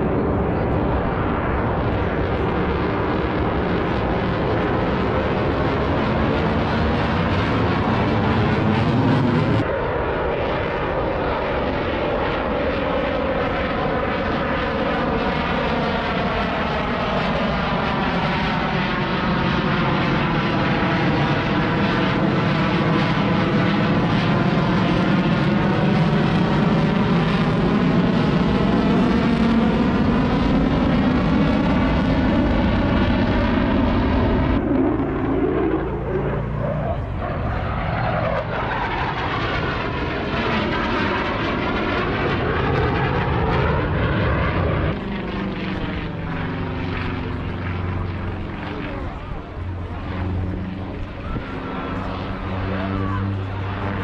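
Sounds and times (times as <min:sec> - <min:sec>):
plane flying past: 0:00.0 - 0:54.0.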